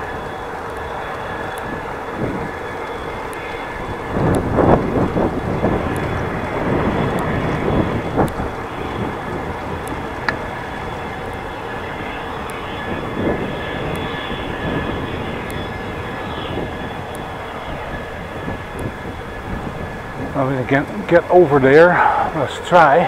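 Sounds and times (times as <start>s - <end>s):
bicycle road noise: 0.0s - 23.0s
distant jet engine rumble: 0.0s - 23.0s
wind noise: 0.0s - 23.0s.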